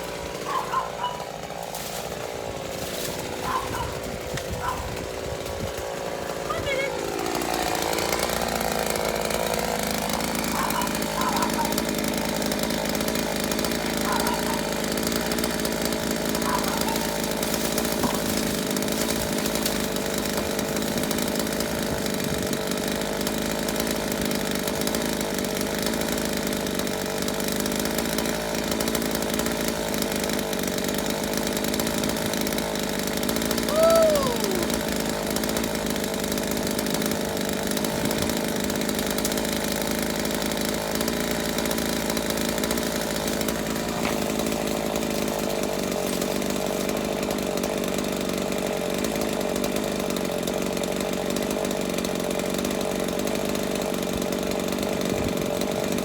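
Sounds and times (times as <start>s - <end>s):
chainsaw engine running: 0.0s - 56.0s.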